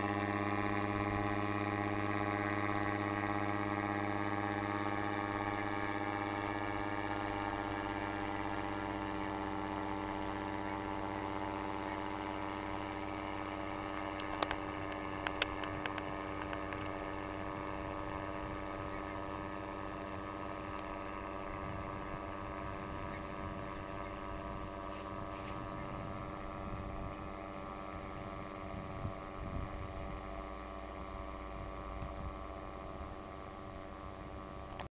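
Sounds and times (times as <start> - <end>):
low wind rumble: 0.0 - 34.9
paramotor engine droning: 0.0 - 34.9.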